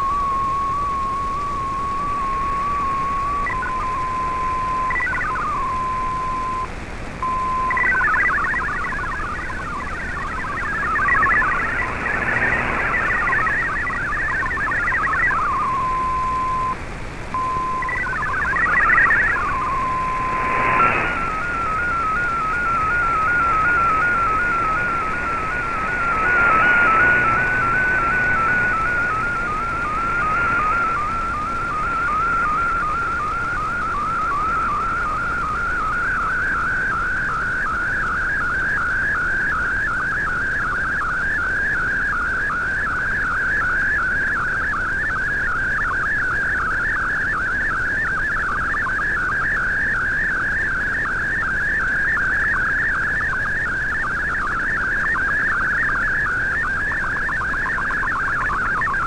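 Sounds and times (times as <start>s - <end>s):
warbling digital data tone: 0.0s - 16.8s, 17.4s - 59.0s.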